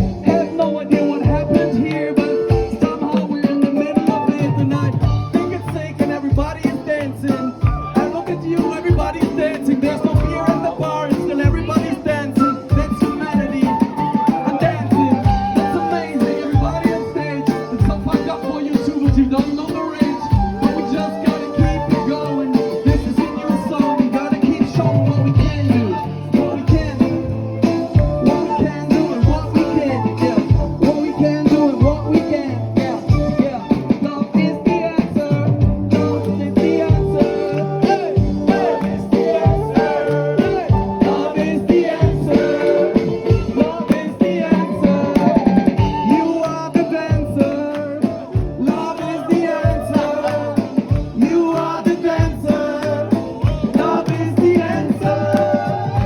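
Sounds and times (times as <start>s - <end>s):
drums keeping a beat: 0.0s - 56.0s
handpans: 0.0s - 56.0s
live band with singing: 0.0s - 56.0s.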